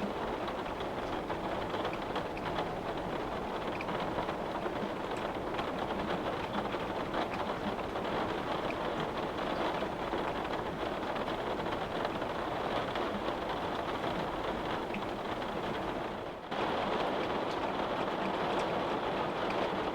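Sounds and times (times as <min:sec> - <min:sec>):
rain pattering on a windowpane: 0:00.0 - 0:19.9.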